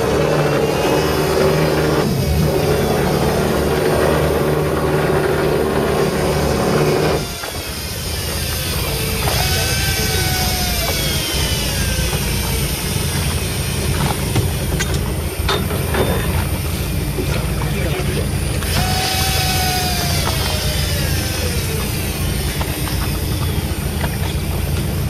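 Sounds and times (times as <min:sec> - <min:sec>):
boat engine running: 0:00.0 - 0:25.0
falling whines: 0:00.0 - 0:25.0
wind: 0:00.0 - 0:25.0.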